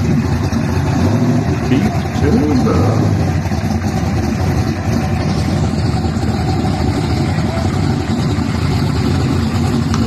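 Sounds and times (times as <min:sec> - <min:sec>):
car engine exhaust rumble: 0:00.0 - 0:10.0.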